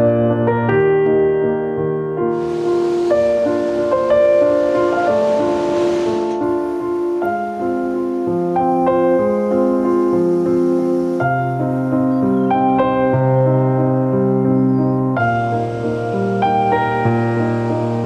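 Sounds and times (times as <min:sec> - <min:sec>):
piano waltz: 0:00.0 - 0:18.0.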